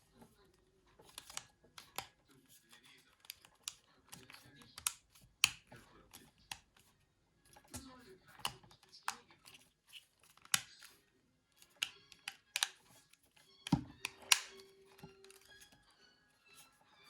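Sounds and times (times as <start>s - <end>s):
plastic phone parts clicking: 1.0s - 6.9s, 7.5s - 15.8s.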